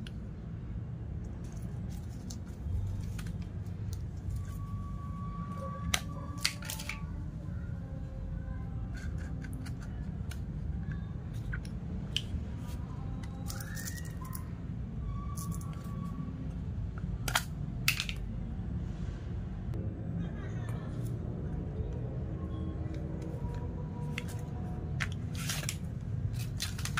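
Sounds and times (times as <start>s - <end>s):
low background hum: 0.0s - 26.9s.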